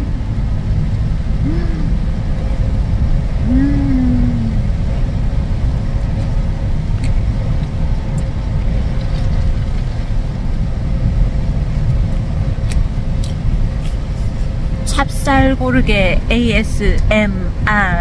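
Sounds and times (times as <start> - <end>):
low rumble in car cabin: 0.0 - 18.0.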